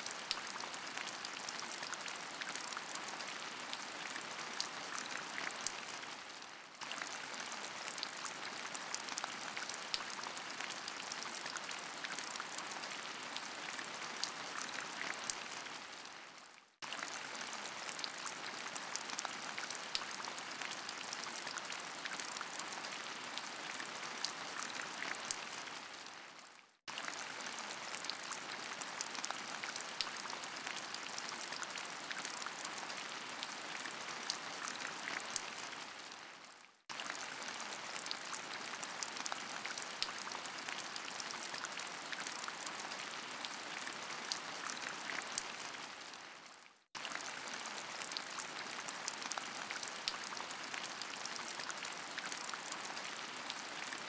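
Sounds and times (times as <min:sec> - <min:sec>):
steady rain with drop ticks: 0:00.0 - 0:54.0.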